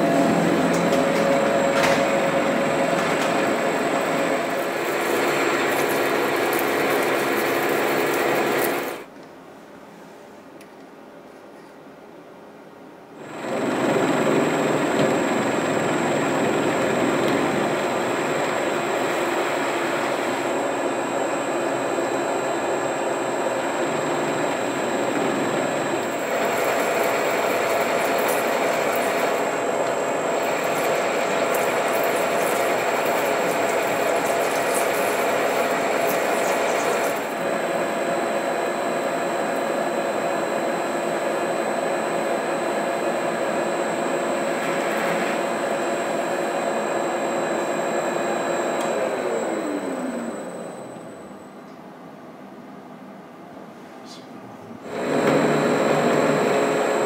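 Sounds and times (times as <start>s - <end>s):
metal lathe whirring: 0.0s - 9.1s, 13.2s - 51.4s, 54.8s - 57.0s.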